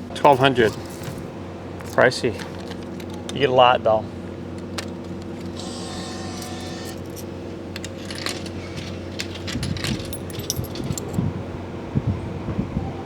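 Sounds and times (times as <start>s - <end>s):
coins clinking: 0.0s - 3.5s, 4.1s - 11.2s
vending machine hum: 0.0s - 12.4s.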